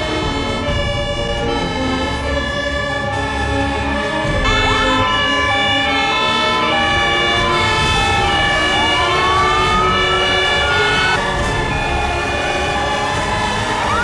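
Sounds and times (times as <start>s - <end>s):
background music of held chords: 0.0s - 14.0s
fire engine siren: 0.0s - 14.0s.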